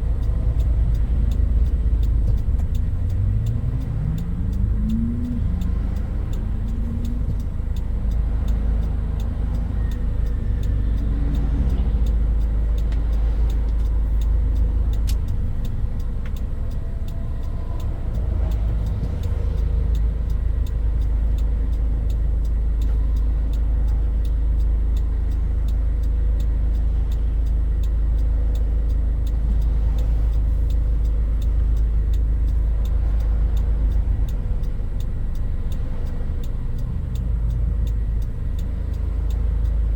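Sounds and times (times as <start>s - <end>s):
pickup engine and road rumble: 0.0s - 39.9s.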